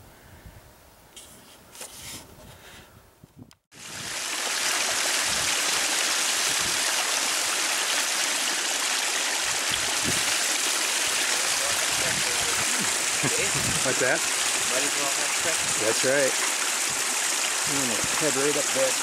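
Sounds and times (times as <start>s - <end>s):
falling water splashing: 3.7s - 19.0s.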